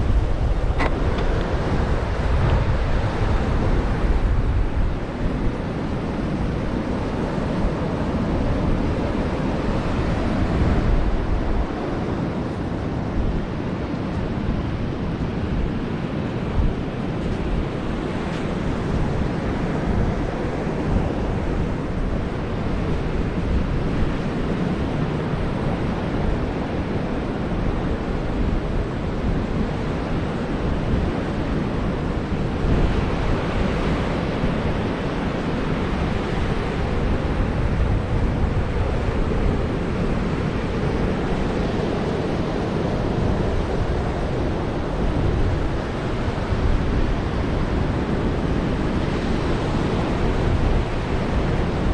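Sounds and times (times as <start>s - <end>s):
surf washing on beach: 0.0s - 51.9s
wind buffeting microphone: 0.0s - 51.9s.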